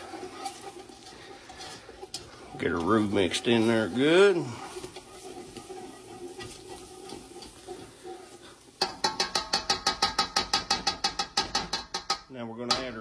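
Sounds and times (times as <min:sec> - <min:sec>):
whisk clacking against metal pot: 0:00.0 - 0:13.0.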